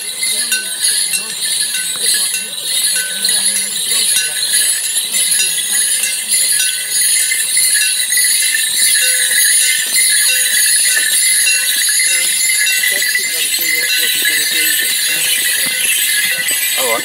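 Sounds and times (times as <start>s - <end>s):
leg bells jingling: 0.0s - 17.0s
people talking: 0.0s - 17.0s.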